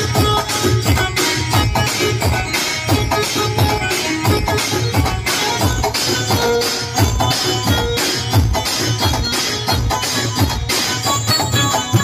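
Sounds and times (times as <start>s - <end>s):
loud dance music with bass beat: 0.0s - 12.0s.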